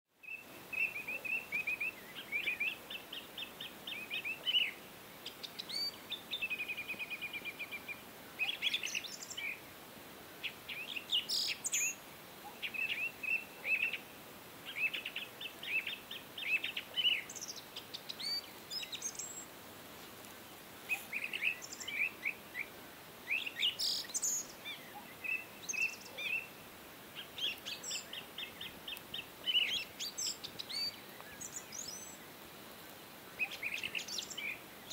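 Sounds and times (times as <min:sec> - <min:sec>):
faint steady hiss: 0:00.1 - 0:34.9
birds chirping and trilling: 0:00.2 - 0:09.6, 0:10.4 - 0:19.5, 0:20.9 - 0:32.4, 0:33.4 - 0:34.9.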